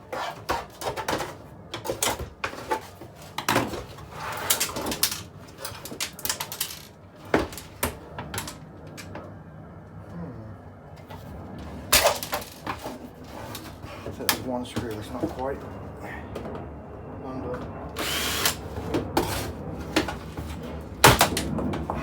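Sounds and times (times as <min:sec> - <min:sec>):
scraping on casing: 0:00.0 - 0:09.4, 0:11.0 - 0:16.6, 0:18.0 - 0:22.0.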